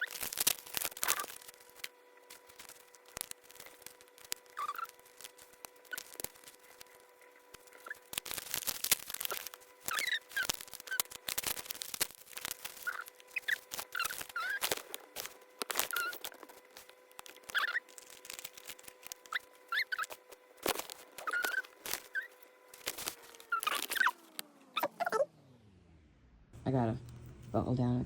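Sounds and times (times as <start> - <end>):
plastic pieces clicking and crinkling: 0.0 - 24.5
faint steady hum: 0.0 - 28.0.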